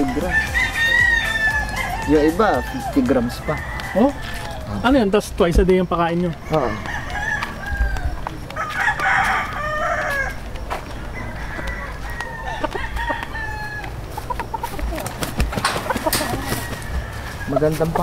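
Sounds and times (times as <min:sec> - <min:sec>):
chicken clucking: 0:00.0 - 0:18.0
roosters crowing: 0:00.0 - 0:18.0.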